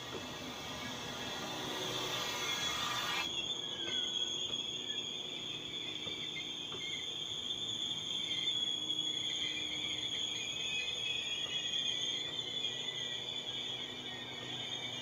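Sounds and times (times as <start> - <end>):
crickets chirring: 0.5 - 15.0.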